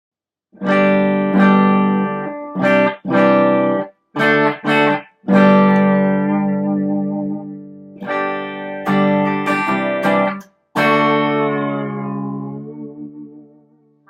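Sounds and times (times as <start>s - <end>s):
overdriven electric guitar chords: 0.6s - 14.0s.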